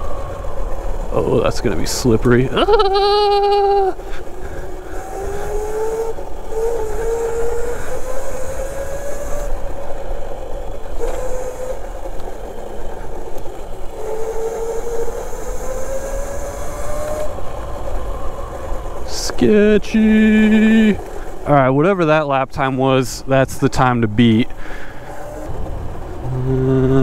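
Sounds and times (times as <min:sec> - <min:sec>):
electric minibike motor whining: 0:00.0 - 0:21.6, 0:24.2 - 0:27.0.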